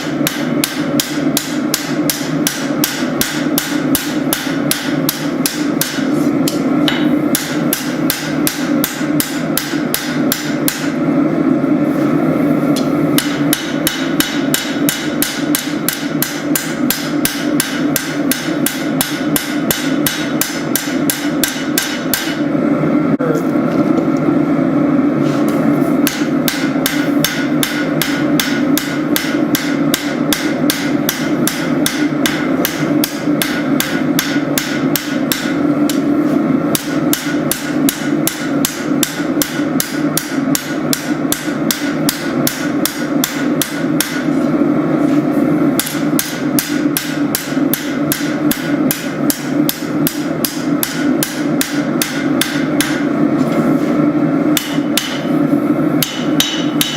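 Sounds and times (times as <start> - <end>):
hammer striking steel on anvil: 0.0 - 11.0, 13.2 - 22.5, 26.0 - 36.1, 36.7 - 44.3, 45.8 - 53.1, 54.5 - 55.3, 56.0 - 56.9.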